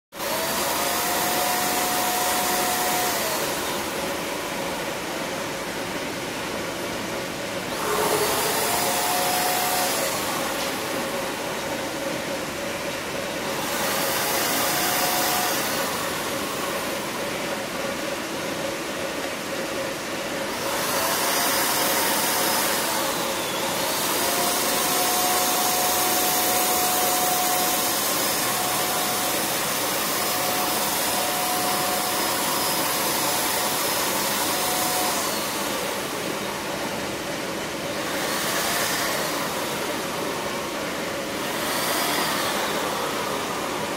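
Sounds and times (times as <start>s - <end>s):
electric paint spray gun whining: 0.2s - 6.9s, 7.6s - 43.9s.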